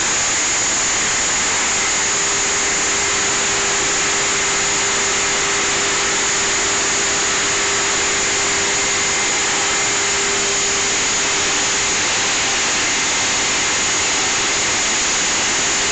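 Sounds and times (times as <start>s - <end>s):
loud rushing machinery noise: 0.0s - 15.9s
steady machinery hum: 0.0s - 15.9s.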